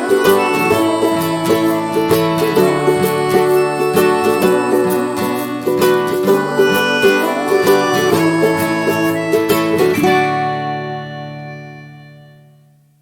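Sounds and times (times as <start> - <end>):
plucked string instrumental music: 0.0 - 13.0.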